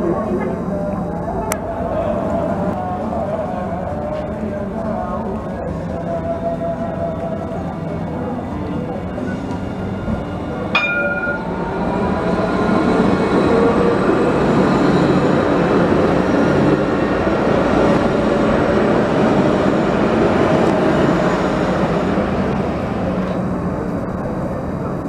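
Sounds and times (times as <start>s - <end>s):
tram wheels rumbling on rails: 0.0s - 25.0s.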